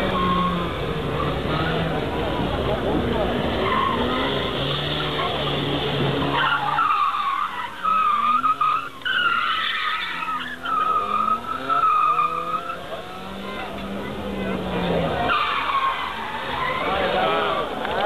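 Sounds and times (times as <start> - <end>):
car engine revving: 0.0 - 18.0
car tyres squealing: 0.0 - 18.0.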